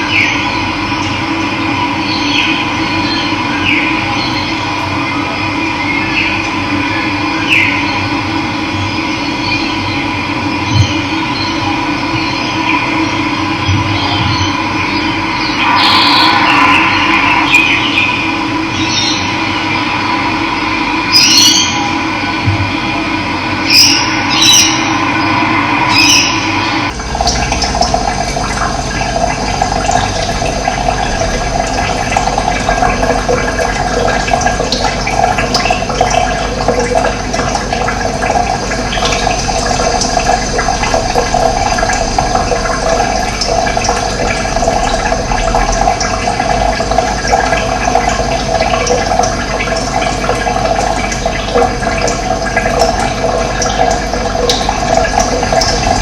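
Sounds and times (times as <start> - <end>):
running water gurgling: 0.0 - 56.0.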